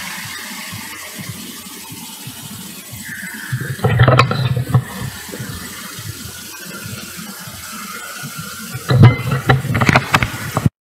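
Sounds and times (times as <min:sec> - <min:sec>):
low thumps near microphone: 0:00.8 - 0:10.7.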